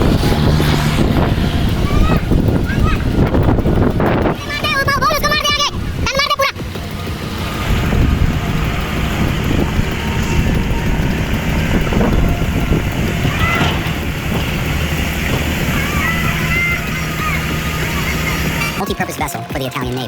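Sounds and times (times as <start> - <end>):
heavy vehicle engine rumble: 0.0 - 18.9.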